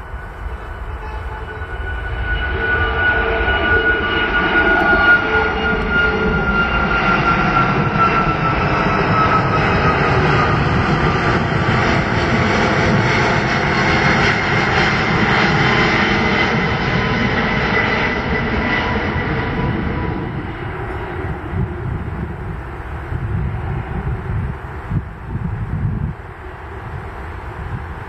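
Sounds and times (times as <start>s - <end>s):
jet engines roaring: 0.0s - 28.0s
jet fan whine: 0.0s - 28.0s.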